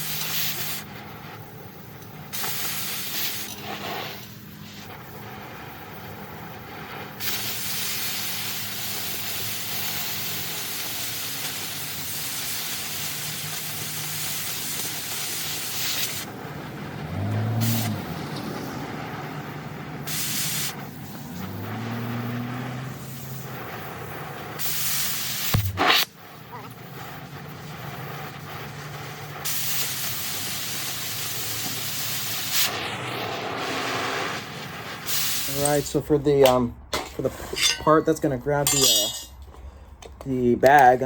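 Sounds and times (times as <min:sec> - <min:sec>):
cutting torch hissing: 0:00.0 - 0:40.0.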